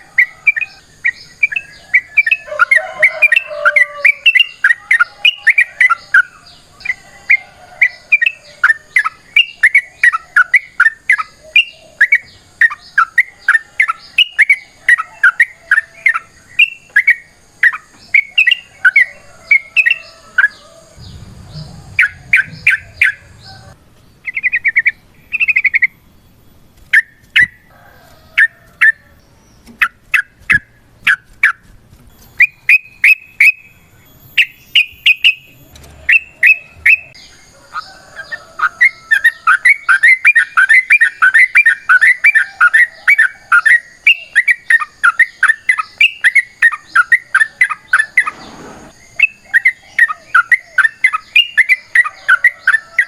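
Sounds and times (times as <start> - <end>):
bulbul calling and chattering: 0.0 - 26.0, 32.2 - 53.0.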